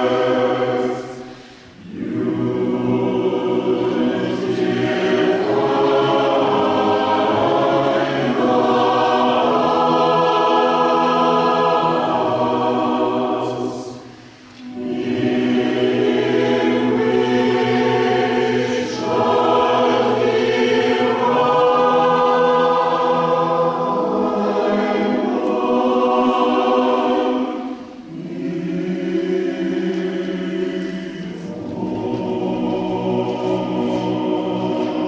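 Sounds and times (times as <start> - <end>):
choir singing a cappella: 0.0 - 35.0.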